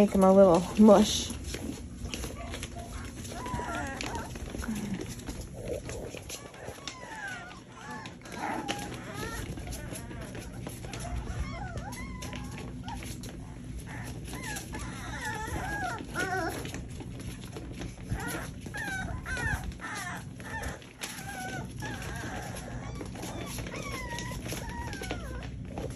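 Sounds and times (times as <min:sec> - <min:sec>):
paws shuffling on bedding: 0:00.0 - 0:25.9
puppies whimpering and squealing: 0:00.0 - 0:25.9.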